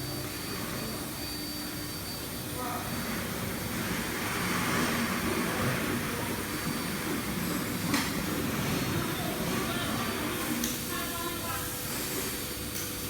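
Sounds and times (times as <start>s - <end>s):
cnc router running: 0.0s - 11.9s.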